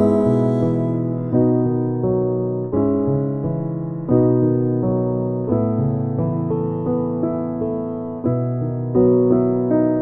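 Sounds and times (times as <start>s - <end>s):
soft piano chords with melody: 0.0s - 10.0s.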